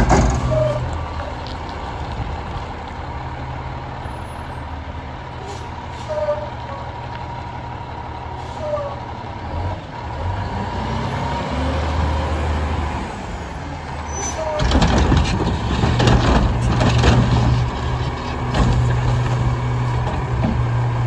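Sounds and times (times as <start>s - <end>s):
garbage truck diesel engine: 0.0s - 21.0s.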